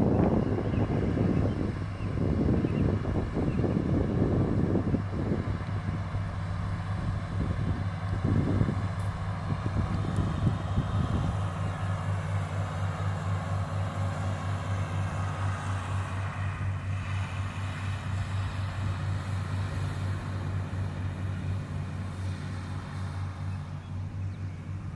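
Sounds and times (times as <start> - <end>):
tractor engine droning: 0.0 - 24.9.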